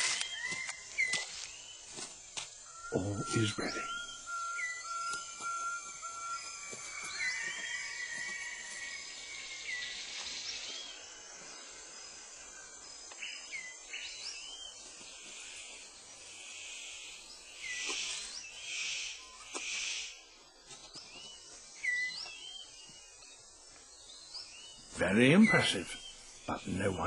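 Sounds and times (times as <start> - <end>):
bird chirps: 0.0 - 27.0
high insect hiss: 0.0 - 27.0.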